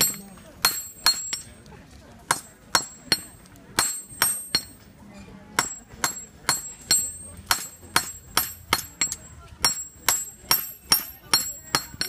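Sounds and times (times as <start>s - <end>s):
hammer striking metal on anvil: 0.0s - 1.6s, 2.3s - 4.8s, 5.6s - 12.0s.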